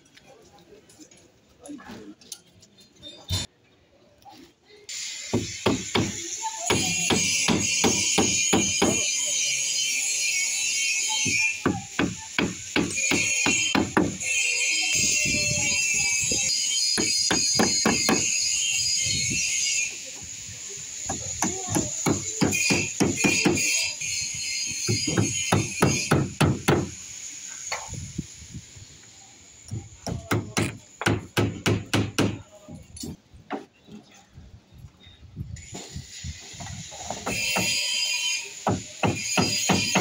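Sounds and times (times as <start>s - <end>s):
high-pitched hiss: 4.8s - 33.1s, 35.5s - 40.0s.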